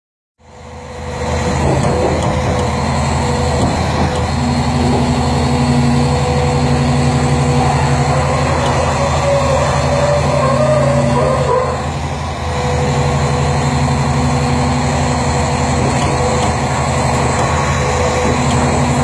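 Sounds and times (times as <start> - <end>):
diesel engine running: 0.4 - 19.0
thin steady whine: 2.5 - 19.0.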